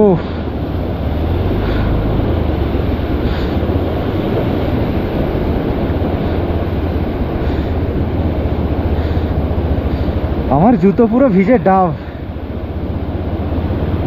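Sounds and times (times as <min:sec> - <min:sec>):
fast-flowing river roaring: 0:00.0 - 0:14.0
motorcycle engine on rough track: 0:00.0 - 0:14.0.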